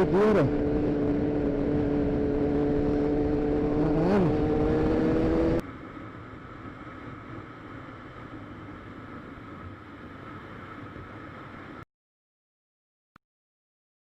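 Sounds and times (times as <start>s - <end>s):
vehicle hum: 0.0s - 11.8s.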